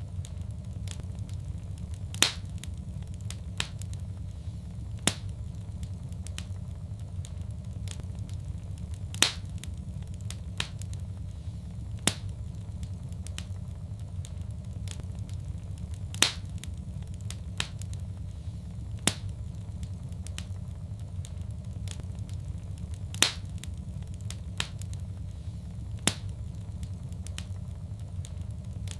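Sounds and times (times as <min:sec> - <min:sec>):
low rumble of flame: 0:00.0 - 0:28.9
wood fire ticks and sharp pops: 0:00.0 - 0:28.9.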